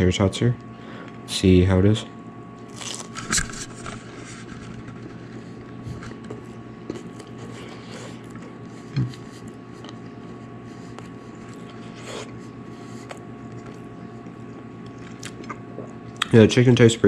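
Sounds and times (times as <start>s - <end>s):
chewing crispy food: 2.6s - 16.4s.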